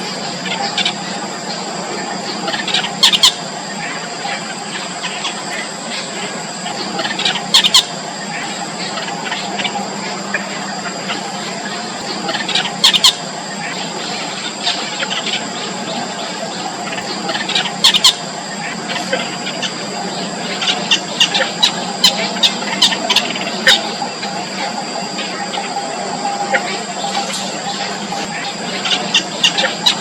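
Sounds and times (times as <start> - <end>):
bird chicks squeaky calls: 0.4 - 30.0.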